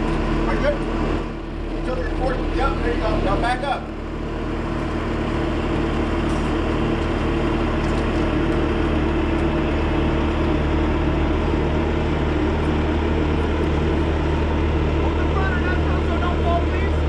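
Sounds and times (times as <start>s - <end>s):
large engine droning: 0.0s - 17.0s.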